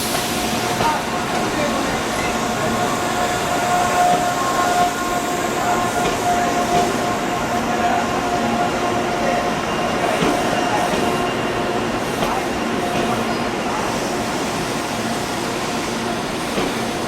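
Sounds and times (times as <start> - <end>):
electric train rumbling: 0.0 - 17.0
train whine: 0.0 - 17.0.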